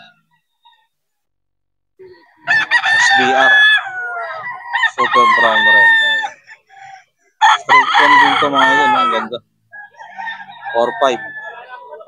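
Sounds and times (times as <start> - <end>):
roosters crowing: 2.3 - 12.0.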